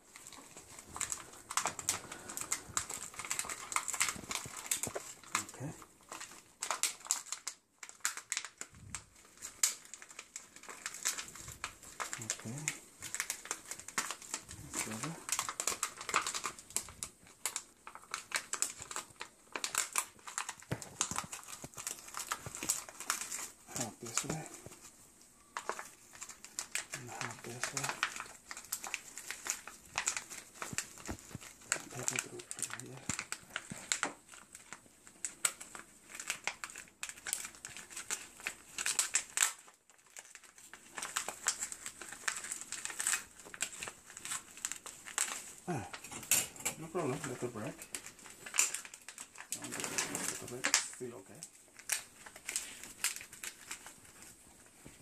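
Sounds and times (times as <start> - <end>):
plant roots rustling: 0.0 - 55.0
plastic cup crinkling: 0.0 - 55.0.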